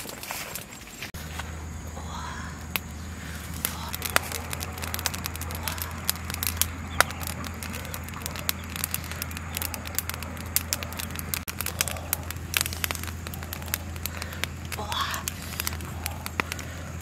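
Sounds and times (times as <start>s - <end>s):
charcoal embers crackling: 0.0s - 17.0s
low hum: 1.0s - 17.0s
sharp pops: 2.6s - 17.0s.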